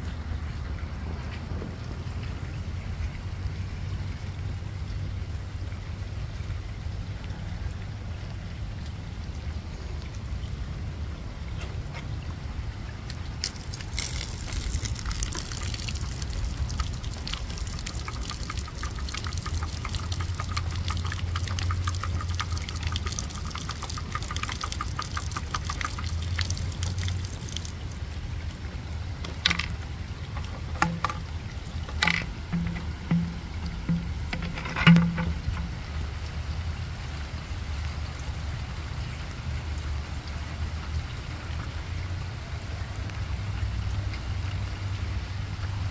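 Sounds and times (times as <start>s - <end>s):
rainwater pouring and splashing: 0.0s - 45.9s.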